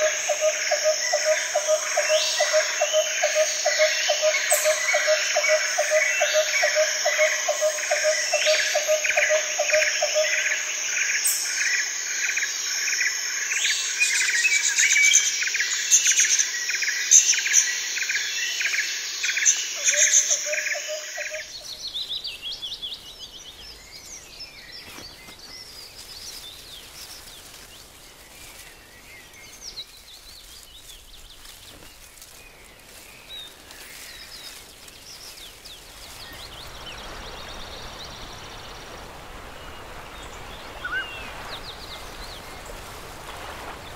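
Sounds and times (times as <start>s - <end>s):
birds chirping: 0.0s - 43.9s
outdoor background noise: 0.0s - 43.9s.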